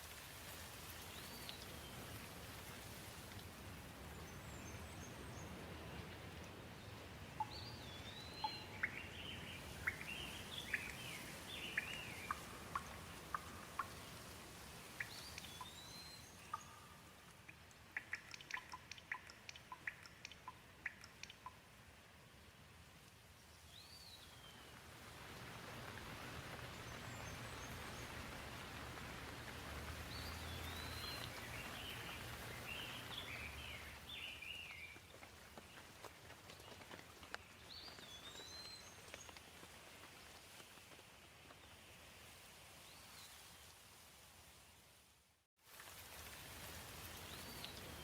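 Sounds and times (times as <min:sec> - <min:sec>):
light rain falling: 0:00.0 - 0:48.0.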